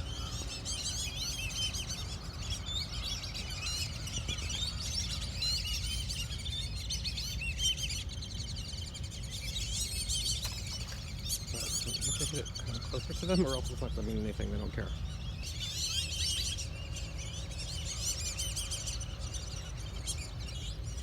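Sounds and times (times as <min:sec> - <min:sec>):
flock of birds chirping: 0:00.0 - 0:21.0
low steady rumble: 0:00.0 - 0:21.0.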